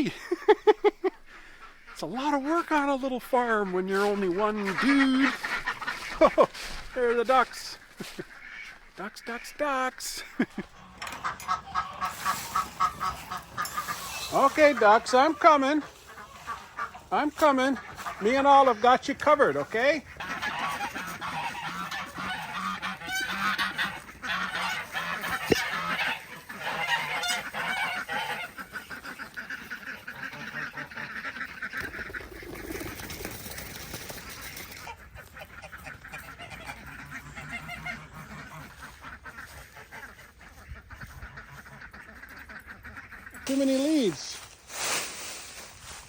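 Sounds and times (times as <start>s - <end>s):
ducks quacking and honking: 0.0s - 46.0s.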